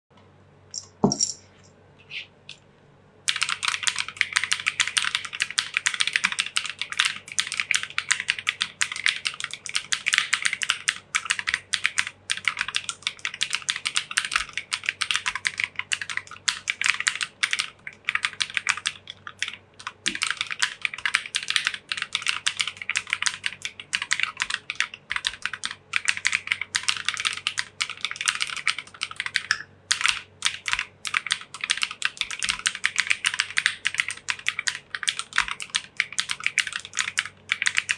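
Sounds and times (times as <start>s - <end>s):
mechanical keyboard typing: 3.3s - 37.9s.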